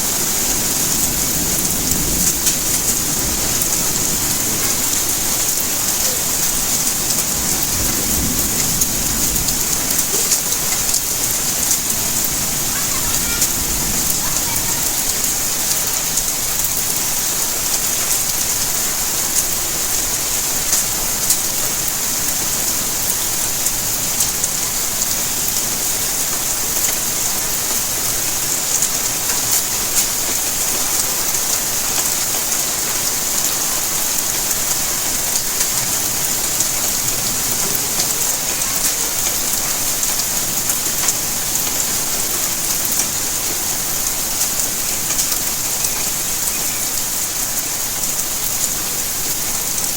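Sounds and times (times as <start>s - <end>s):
raindrops ticking on surfaces: 0.0s - 49.9s
steady rainfall hiss: 0.0s - 49.9s.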